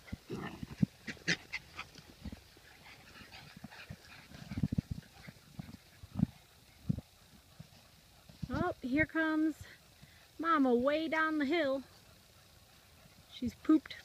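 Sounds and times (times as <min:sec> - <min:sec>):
puppies snuffling and breathing: 0:00.0 - 0:14.0.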